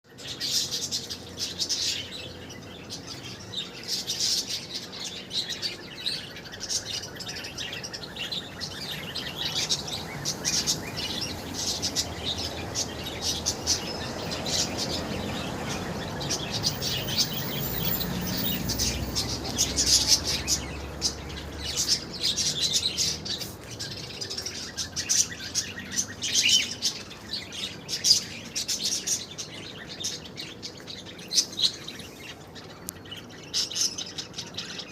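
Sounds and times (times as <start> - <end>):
caged birds chirping: 0.0 - 34.9.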